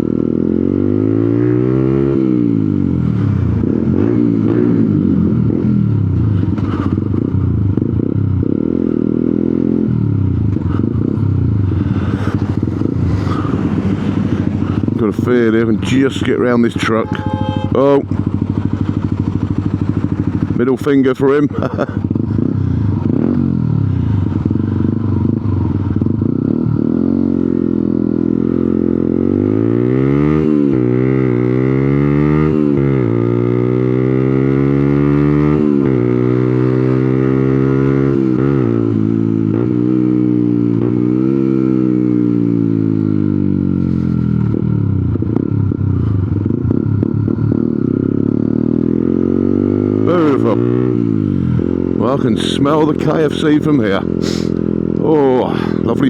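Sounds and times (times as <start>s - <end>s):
motorcycle engine shifting gears: 0.0s - 56.0s.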